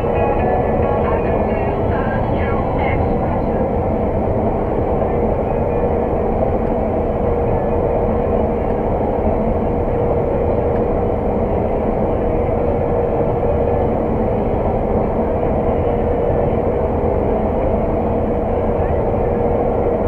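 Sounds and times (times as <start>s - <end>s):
combine harvester drone from cab: 0.0s - 20.0s.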